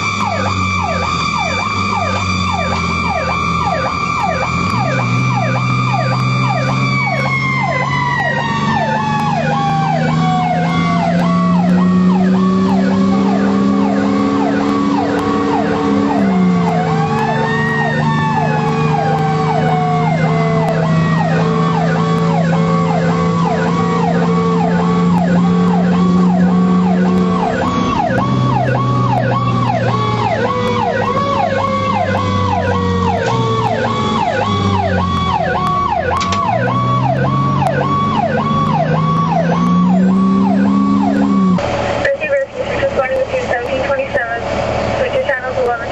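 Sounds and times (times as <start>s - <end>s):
electronic siren yelping: 0.0s - 41.6s
winding siren tone: 0.0s - 41.6s
truck engine pulling hard: 0.0s - 45.9s.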